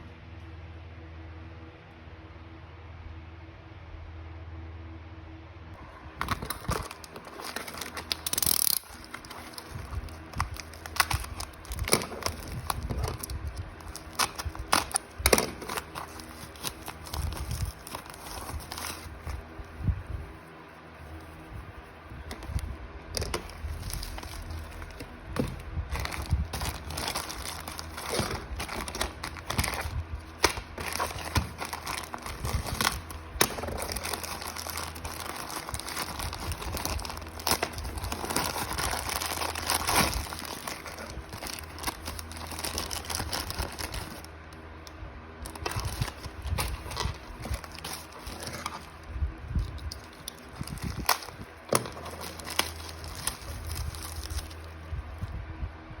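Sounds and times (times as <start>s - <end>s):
steady low hum: 0.0s - 56.0s
plastic packaging crinkling: 6.1s - 55.3s.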